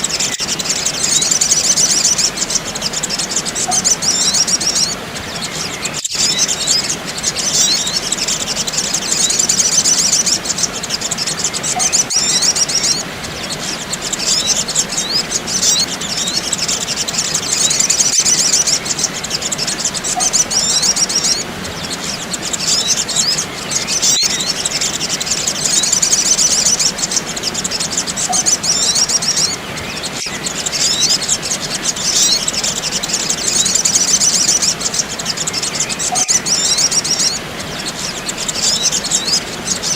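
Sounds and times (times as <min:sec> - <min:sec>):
high-pitched bird chirping: 0:00.0 - 0:39.9.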